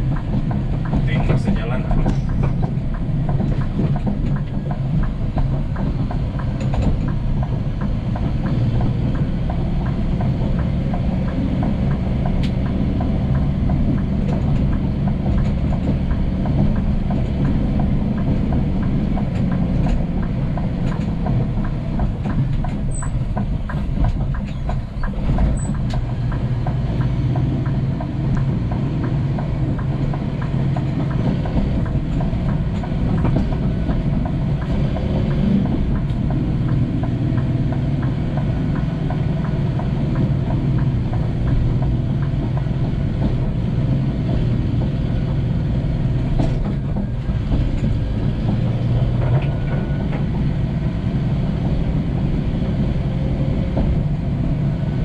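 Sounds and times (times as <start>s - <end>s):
truck engine and road noise: 0.0s - 55.0s.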